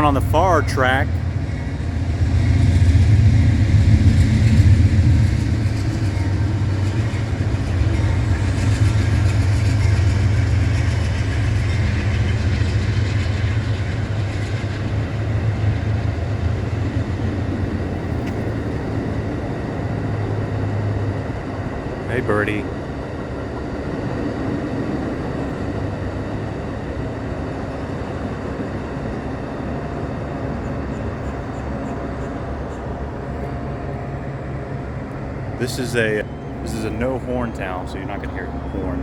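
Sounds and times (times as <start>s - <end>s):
passenger train rumbling past: 0.0s - 39.0s.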